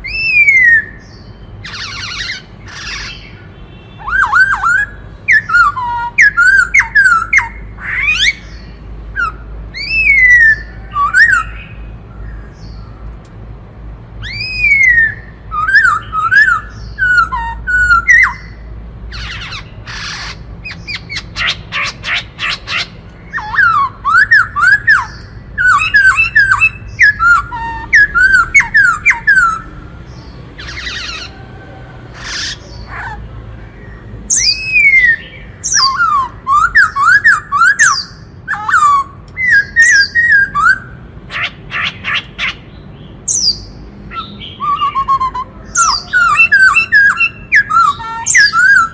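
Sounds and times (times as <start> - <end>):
bird whistling song: 0.0 - 13.0, 14.2 - 31.4, 32.1 - 48.9.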